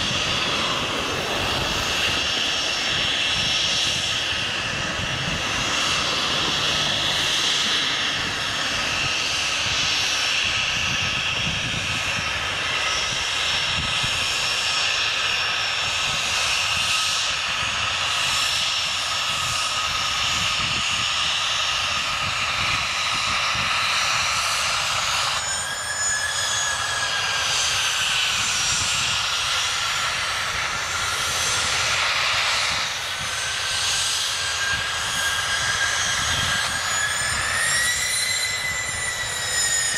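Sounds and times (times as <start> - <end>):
jet engines whining: 0.0 - 39.9
small jet taxiing whine: 0.0 - 39.9.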